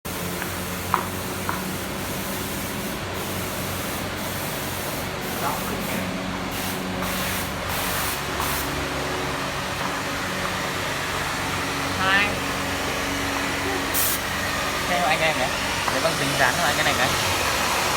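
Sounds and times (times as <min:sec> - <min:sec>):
spray gun hissing: 0:00.1 - 0:08.8, 0:12.0 - 0:17.9.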